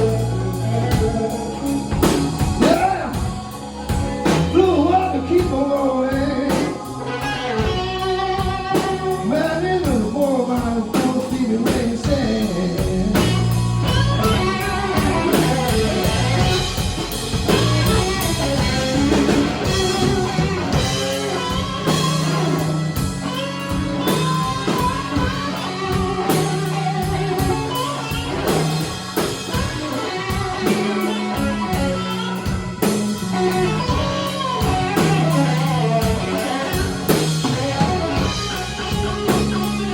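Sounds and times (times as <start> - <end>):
electric guitar lead: 0.0 - 39.9
live blues band playing: 0.0 - 39.9.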